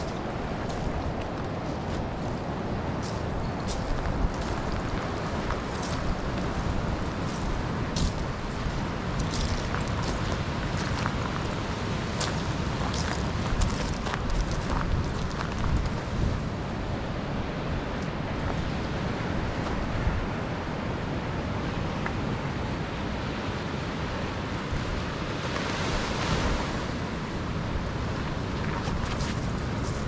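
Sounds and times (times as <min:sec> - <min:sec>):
ocean surf washing on shore: 0:00.0 - 0:30.0
wind rumbling on microphone: 0:00.0 - 0:30.0.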